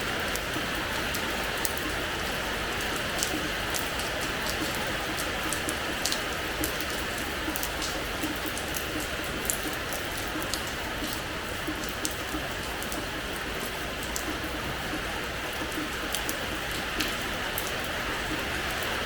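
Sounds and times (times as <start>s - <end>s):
rain on hard floor: 0.0s - 19.0s.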